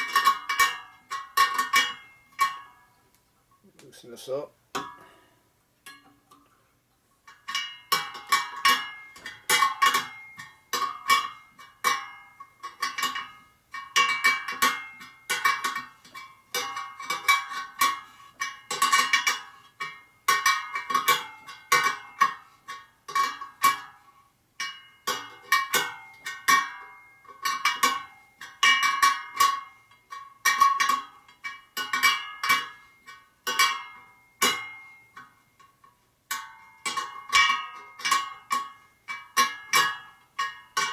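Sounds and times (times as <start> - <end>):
metal spokes pinging: 0.0 - 5.2, 5.8 - 40.9.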